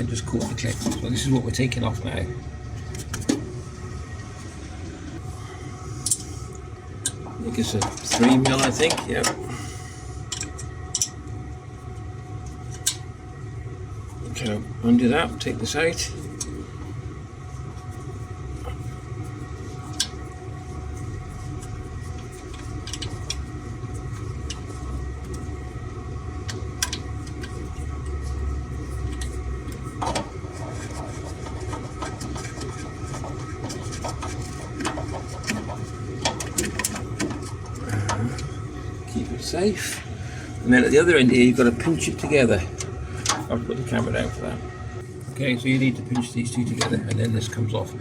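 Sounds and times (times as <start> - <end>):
heater humming and whining: 0.0 - 48.0.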